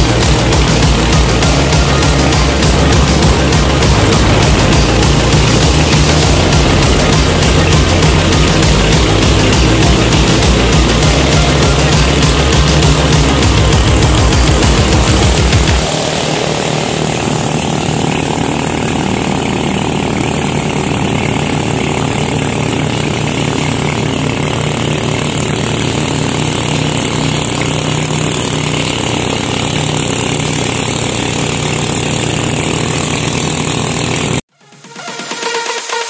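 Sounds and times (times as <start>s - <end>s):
jet ski engine buzzing: 0.0s - 36.0s.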